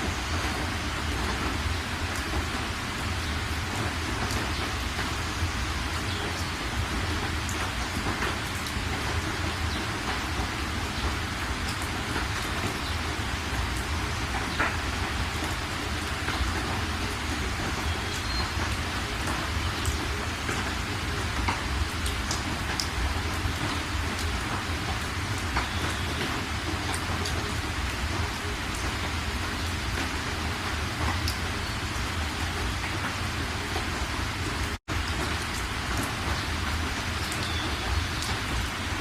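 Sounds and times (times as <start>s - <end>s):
rain falling: 0.0s - 39.0s
raindrop impacts: 0.0s - 39.0s.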